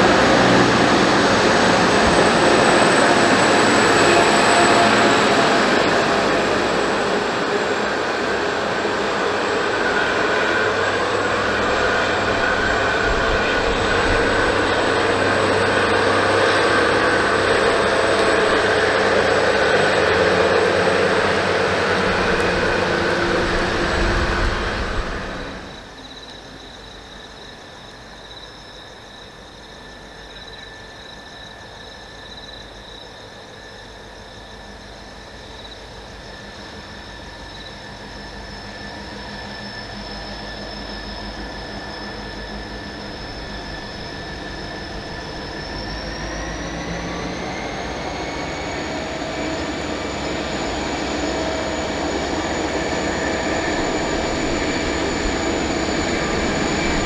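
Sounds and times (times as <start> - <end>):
train high whine: 0.0 - 57.0
train running past: 0.0 - 57.0.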